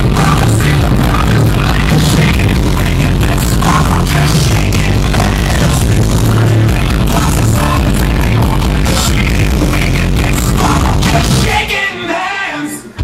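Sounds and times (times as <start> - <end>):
distorted bass-heavy music: 0.0 - 13.0.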